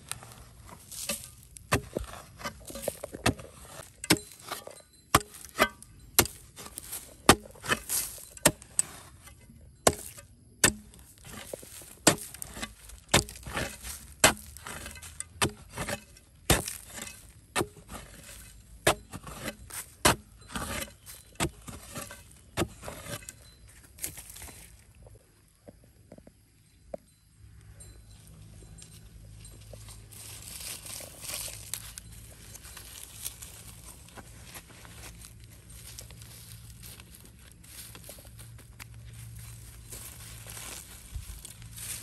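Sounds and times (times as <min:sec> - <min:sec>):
digging tool striking dry soil: 0:00.0 - 0:24.8, 0:29.7 - 0:42.0.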